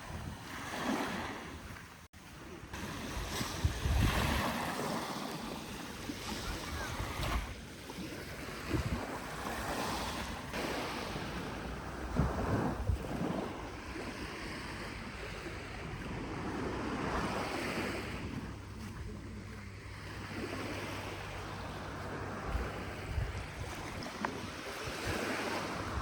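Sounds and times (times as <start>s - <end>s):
sea waves washing onto beach: 0.0s - 26.0s
wind rumbling on microphone: 0.0s - 26.0s.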